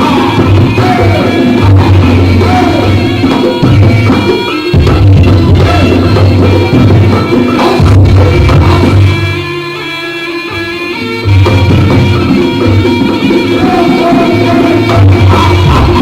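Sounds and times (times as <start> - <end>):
heavy pulsing bass: 0.0 - 9.4, 11.3 - 16.0
drums: 0.0 - 9.7, 10.7 - 16.0
ringing tuned metal percussion: 0.0 - 16.0.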